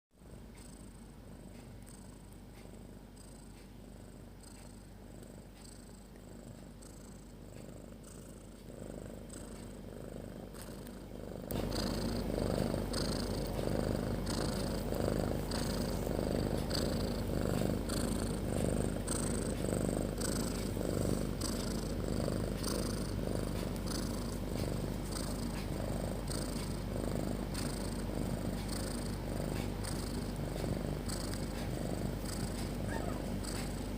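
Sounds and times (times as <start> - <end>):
cat snoring: 0.2 - 33.9.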